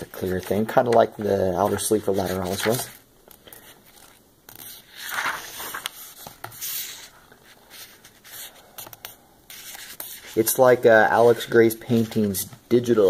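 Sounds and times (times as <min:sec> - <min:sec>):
pages turning and rustling: 0:00.0 - 0:12.5.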